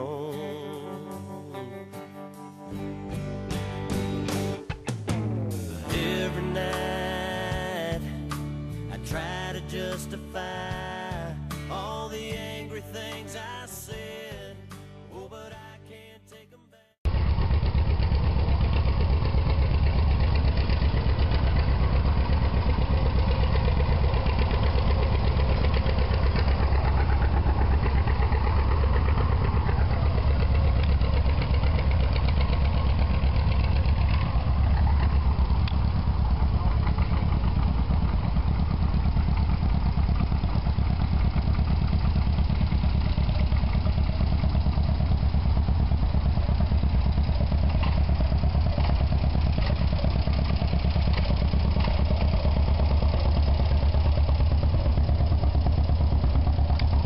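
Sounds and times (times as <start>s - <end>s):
tractor engine running: 2.7s - 15.7s, 17.1s - 57.0s.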